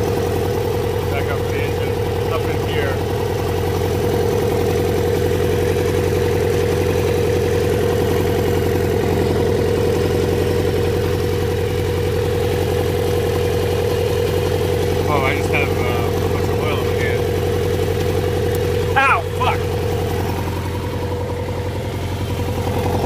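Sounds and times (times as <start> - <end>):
motorcycle engine idling roughly: 0.0 - 23.0.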